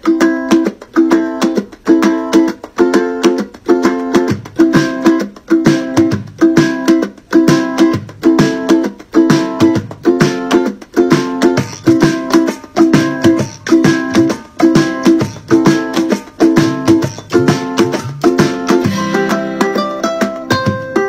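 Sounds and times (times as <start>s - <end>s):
strummed ukulele chords: 0.0s - 21.0s.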